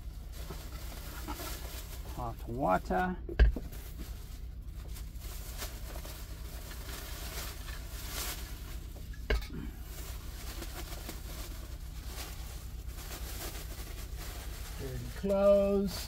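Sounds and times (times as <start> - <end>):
plastic bags rustling: 0.0 - 16.0
steady low hum: 0.0 - 16.0.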